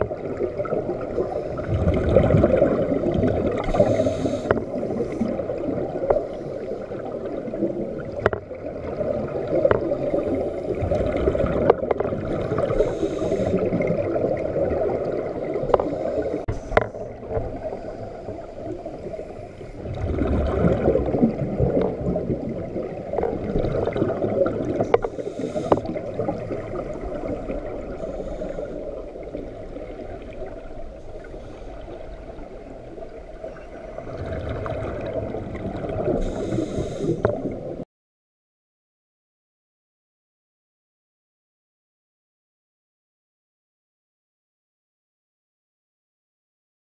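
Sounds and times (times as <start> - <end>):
underwater air bubbles gurgling: 0.0 - 37.8.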